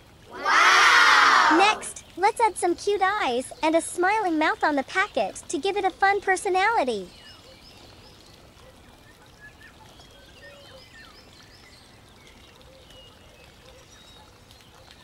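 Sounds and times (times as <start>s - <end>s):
steady low background hiss: 0.0s - 12.5s.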